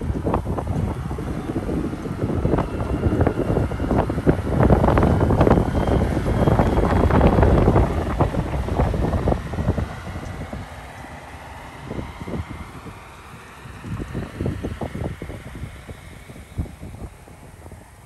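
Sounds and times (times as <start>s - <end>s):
wind gusting on microphone: 0.0s - 18.0s.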